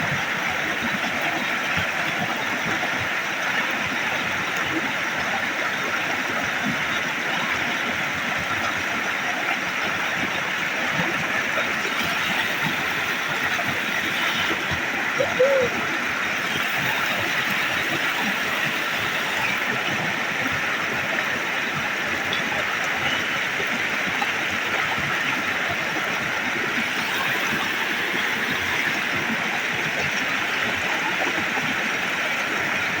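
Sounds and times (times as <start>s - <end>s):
small waterfall rushing: 0.0s - 33.0s.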